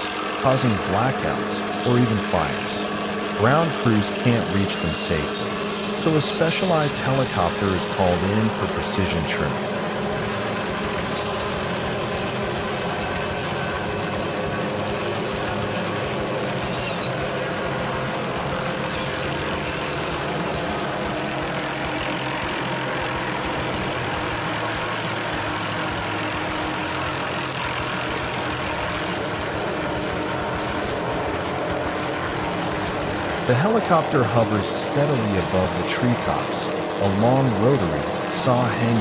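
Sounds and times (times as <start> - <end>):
engine droning: 0.0 - 39.0.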